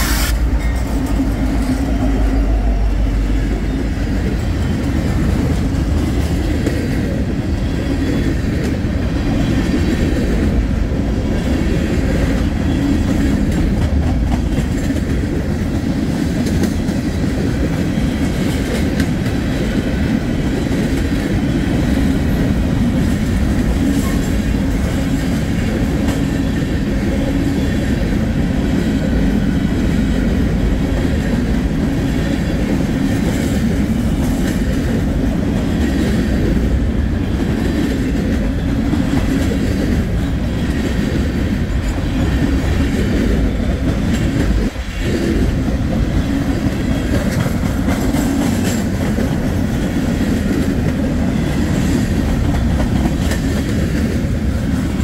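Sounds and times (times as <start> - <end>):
freight train wheels rumbling on rail: 0.0 - 55.0.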